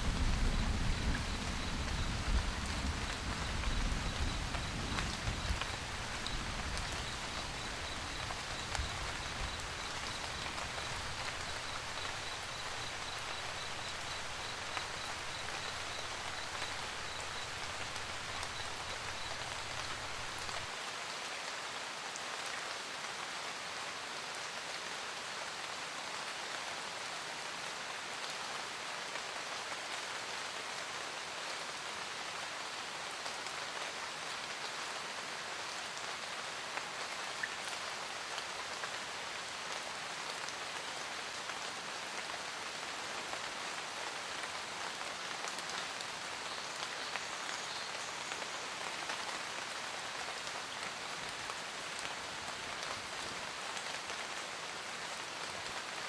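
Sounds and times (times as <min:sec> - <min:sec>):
rain pattering on a roof: 0:00.0 - 0:56.0.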